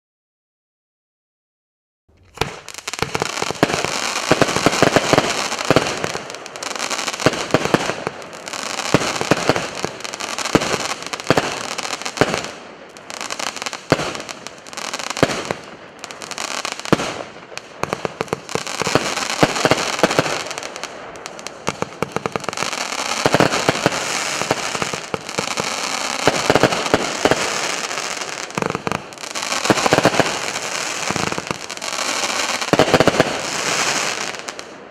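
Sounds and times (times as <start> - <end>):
firework crackling and popping: 2.1 - 34.9.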